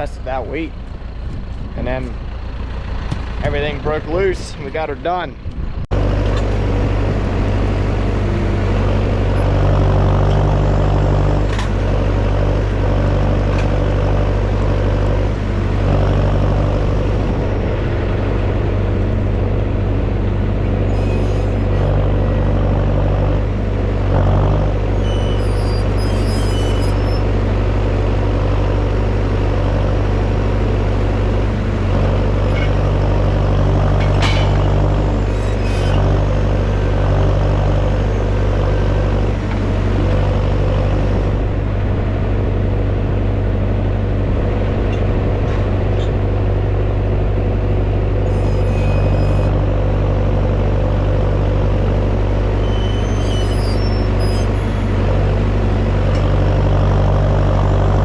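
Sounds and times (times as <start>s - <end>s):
tractor engine drone: 0.0s - 58.0s.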